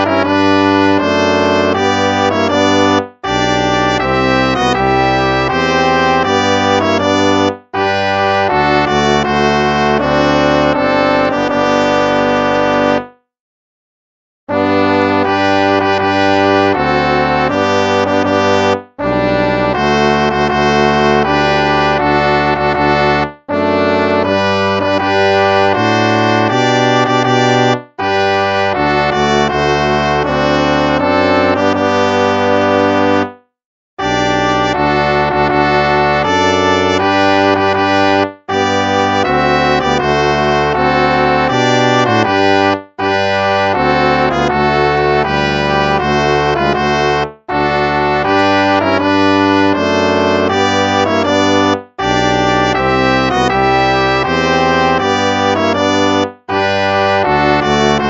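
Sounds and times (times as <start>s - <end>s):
instrumental hymn music: 0.0s - 13.3s, 14.5s - 58.0s.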